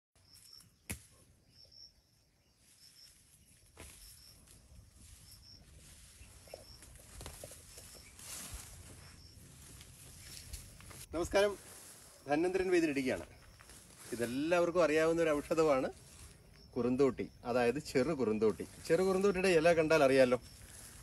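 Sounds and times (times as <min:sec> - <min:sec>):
leafy plants rustling: 0:02.4 - 0:21.0.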